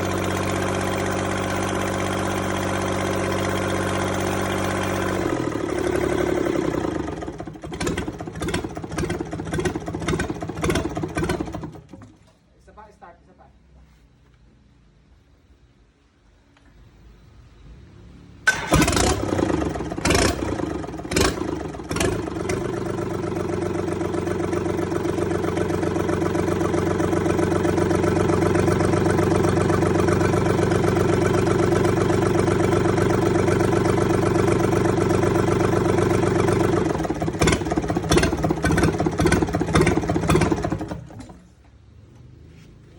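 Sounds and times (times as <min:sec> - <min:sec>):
diesel engine running: 0:00.0 - 0:12.0, 0:18.4 - 0:42.9
engine knocking: 0:00.0 - 0:12.0, 0:18.5 - 0:41.4.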